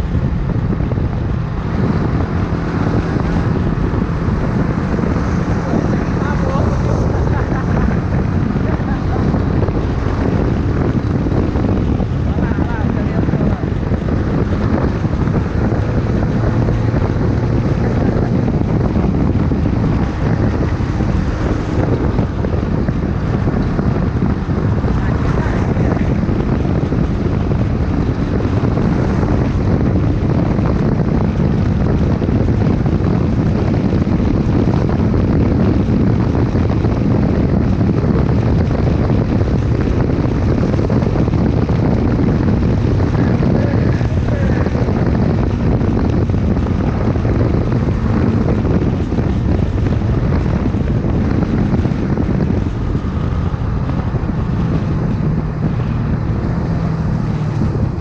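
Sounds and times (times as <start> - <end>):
motorcycle engine rumbling: 0.0 - 58.0
wind noise on microphone: 0.0 - 58.0.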